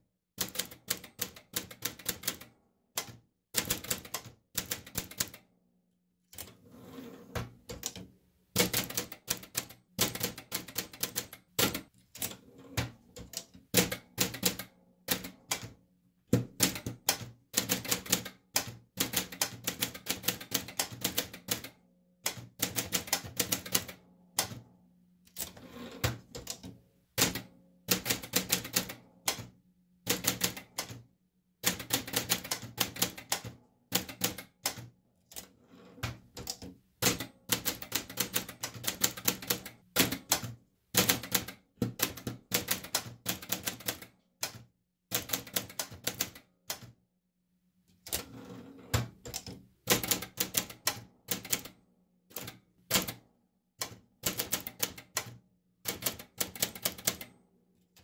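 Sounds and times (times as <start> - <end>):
typewriter typing: 0.4 - 5.4, 7.6 - 15.8, 16.4 - 24.6, 25.3 - 29.5, 30.1 - 31.0, 31.6 - 47.0, 49.0 - 53.2, 53.8 - 57.3.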